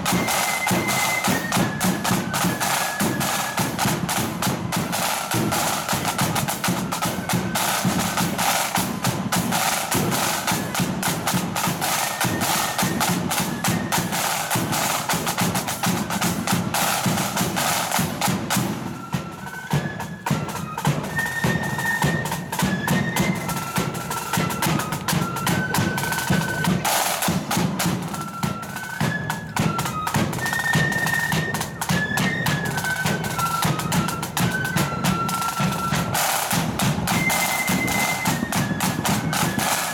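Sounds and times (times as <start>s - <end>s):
flute melody: 0.0s - 39.9s
snare drums rattling: 0.0s - 39.9s.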